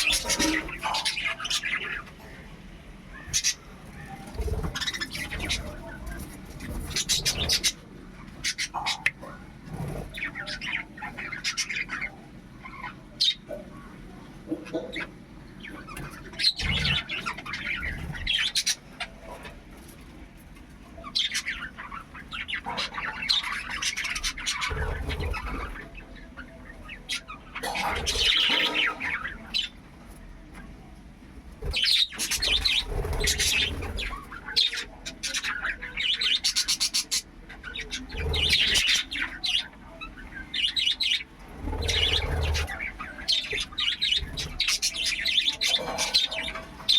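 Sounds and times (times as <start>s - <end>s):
budgerigars chirping and squawking: 0.0s - 2.4s, 3.1s - 20.0s, 20.8s - 29.9s, 31.6s - 46.9s.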